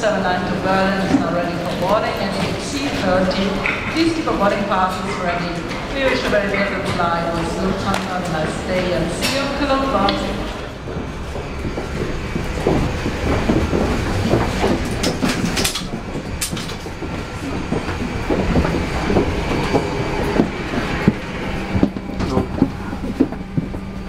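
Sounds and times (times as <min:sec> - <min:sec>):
footsteps and clattering knocks: 0:00.0 - 0:24.0
steady rumble: 0:00.0 - 0:24.0.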